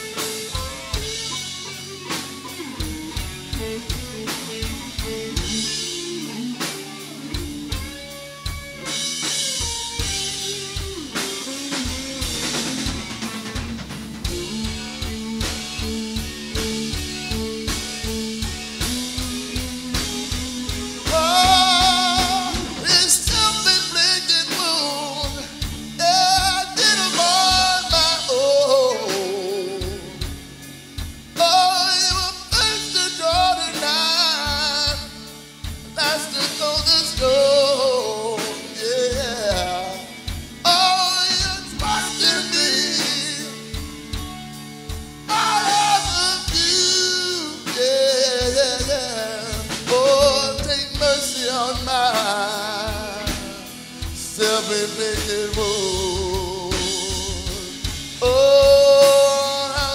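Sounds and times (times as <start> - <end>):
drum beat: 0.0 - 59.9
lead guitar bent notes: 0.0 - 59.9
rock band playing: 0.0 - 59.9.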